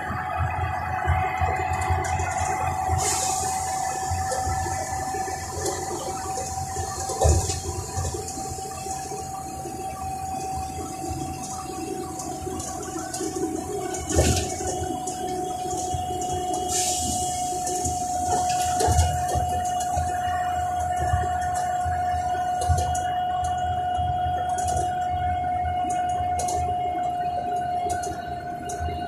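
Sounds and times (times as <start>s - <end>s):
bus cabin drone with whine: 0.0s - 29.0s.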